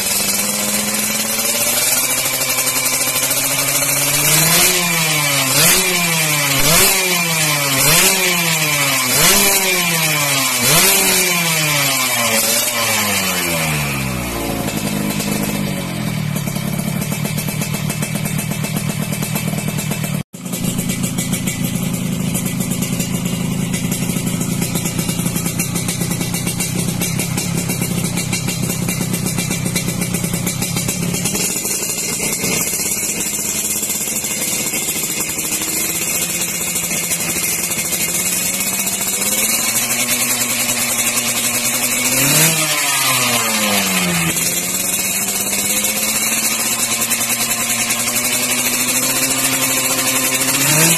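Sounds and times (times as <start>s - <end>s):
motorcycle engine idling and revving: 0.0s - 50.9s.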